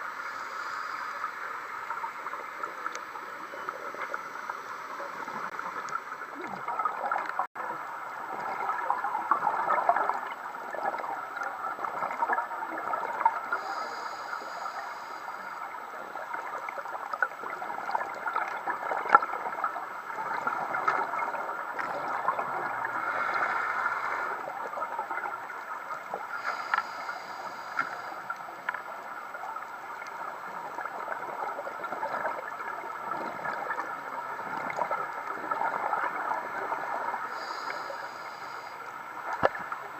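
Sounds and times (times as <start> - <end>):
scuba bubbles gurgling: 0.0 - 39.9.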